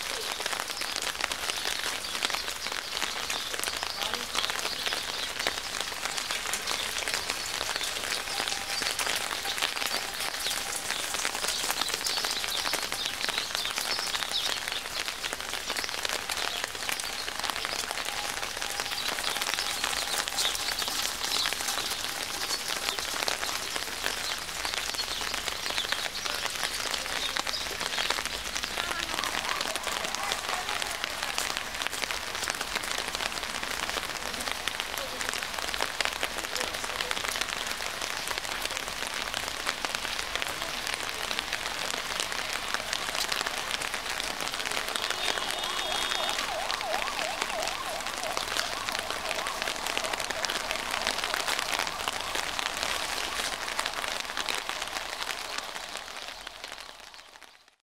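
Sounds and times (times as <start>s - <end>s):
raindrops hitting nearby: 0.0s - 57.8s
steady rain falling: 0.0s - 57.8s.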